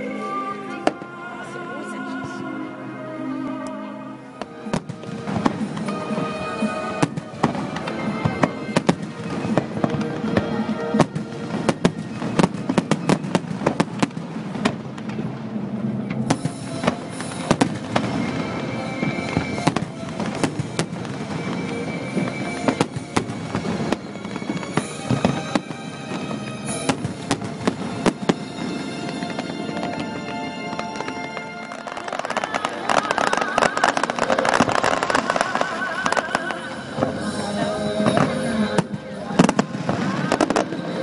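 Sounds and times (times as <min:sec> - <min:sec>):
music playing: 0:00.0 - 0:41.0
fireworks bangs: 0:04.6 - 0:41.0.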